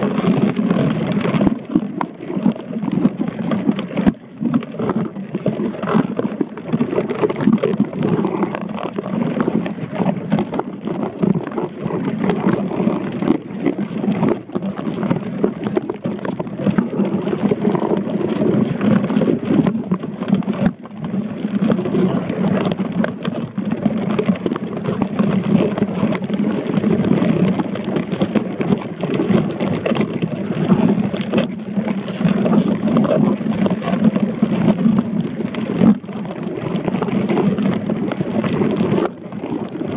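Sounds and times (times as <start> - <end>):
muffled underwater rushing: 0.0 - 39.9
underwater crackling: 0.0 - 39.9.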